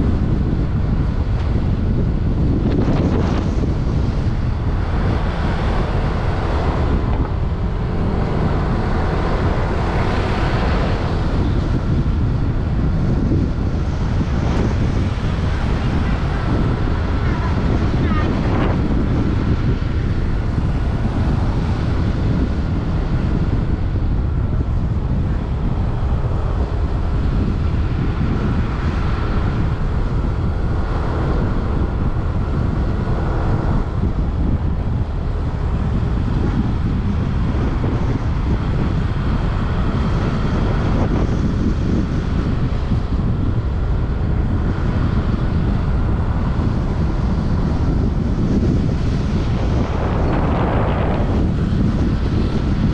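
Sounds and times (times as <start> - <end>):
motorbike and road noise: 0.0 - 52.9
wind buffeting microphone: 0.0 - 52.9.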